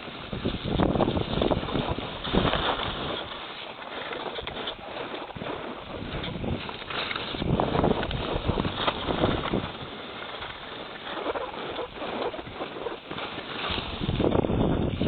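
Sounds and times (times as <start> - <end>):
skis scraping over snow: 0.0 - 15.0
wind buffeting microphone: 0.0 - 15.0.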